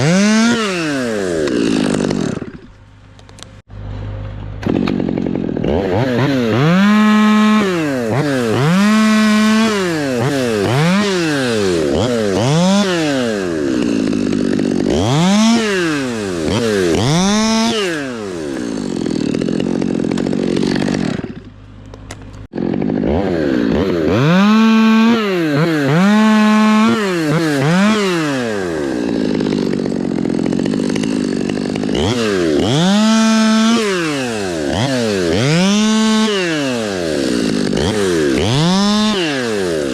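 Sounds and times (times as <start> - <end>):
chainsaw revving: 0.0 - 3.4, 4.5 - 39.9.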